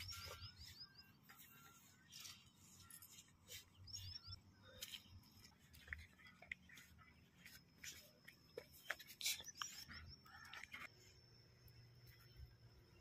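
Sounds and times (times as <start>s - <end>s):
footsteps crunching on dirt path: 0.0s - 10.9s.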